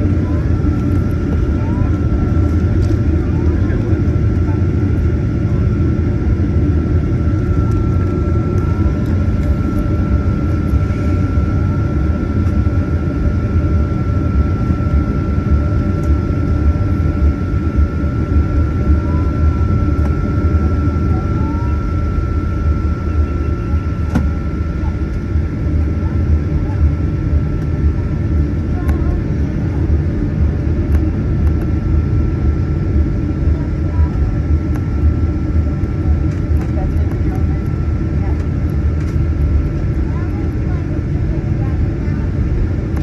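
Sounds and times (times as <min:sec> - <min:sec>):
jet engine cabin rumble: 0:00.0 - 0:43.0
thin steady whine: 0:00.0 - 0:43.0.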